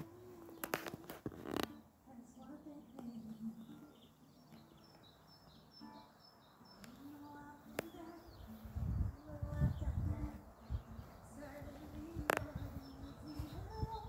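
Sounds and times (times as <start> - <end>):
faint background noise: 0.0 - 14.0
small birds chirping: 0.0 - 14.0.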